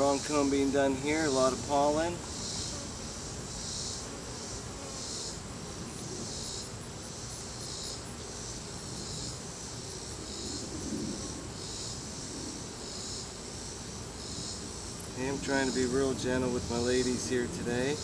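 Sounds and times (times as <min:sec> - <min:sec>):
honey bees buzzing: 0:00.0 - 0:10.1, 0:12.6 - 0:18.0
insect chirping: 0:00.0 - 0:18.0.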